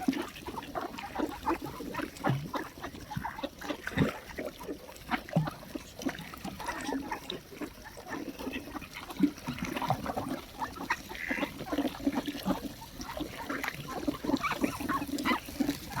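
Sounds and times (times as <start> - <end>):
water splashing: 0.0 - 16.0
waterbirds calling: 0.0 - 16.0.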